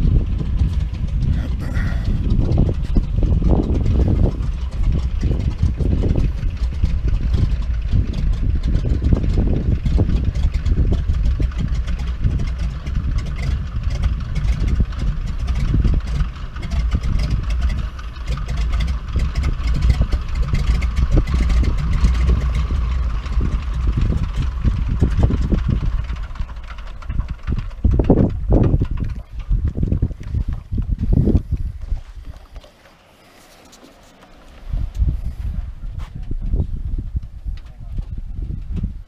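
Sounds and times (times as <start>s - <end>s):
wind buffeting microphone: 0.0s - 33.2s, 34.0s - 39.0s
floatplane engine idling: 0.0s - 39.0s.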